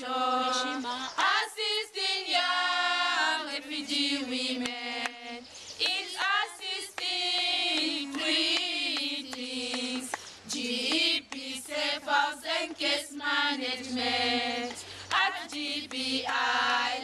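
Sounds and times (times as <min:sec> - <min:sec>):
women singing a cappella: 0:00.0 - 0:17.0.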